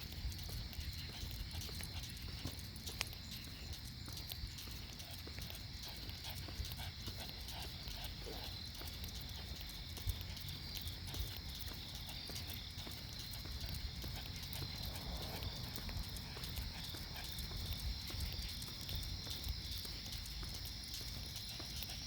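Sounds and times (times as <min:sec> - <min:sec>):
clicking footsteps: 0:00.0 - 0:22.0.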